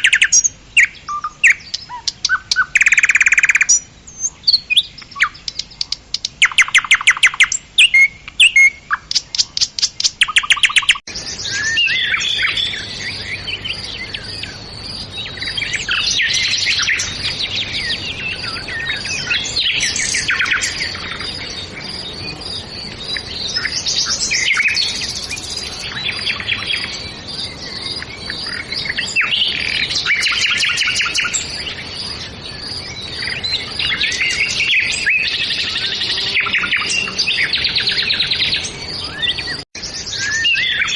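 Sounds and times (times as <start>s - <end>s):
chorus of birds chirping: 0.0s - 40.9s
loud repeated bird chirps: 0.0s - 40.9s.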